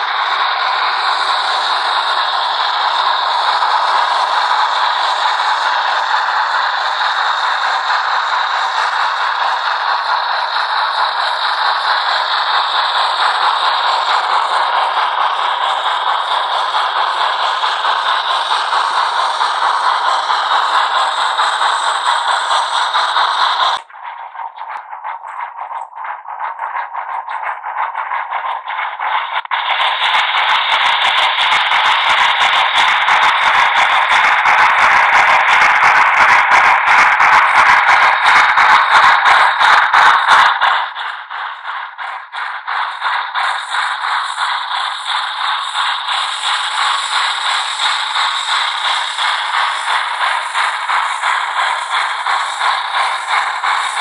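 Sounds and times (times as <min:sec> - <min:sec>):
steam hiss from small loudspeaker: 0:00.0 - 0:23.9, 0:28.2 - 0:54.0.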